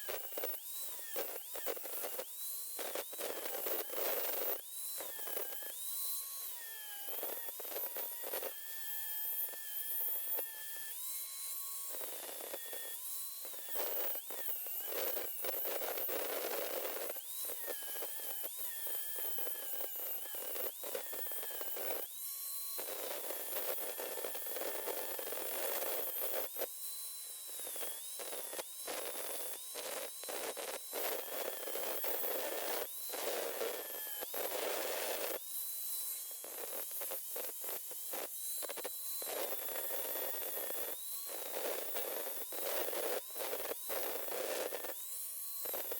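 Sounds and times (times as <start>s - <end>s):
electric grinder grinding metal: 0.0s - 45.9s.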